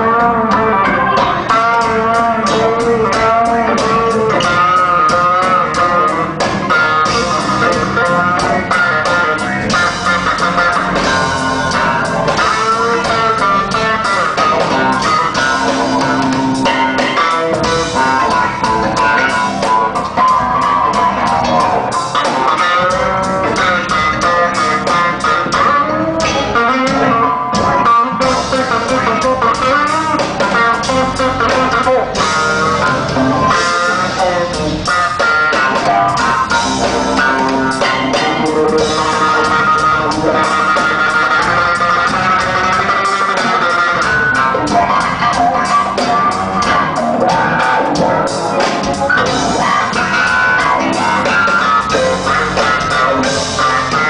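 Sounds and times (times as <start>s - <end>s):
drums: 0.0s - 54.0s
electric bass guitar melody: 0.0s - 54.0s.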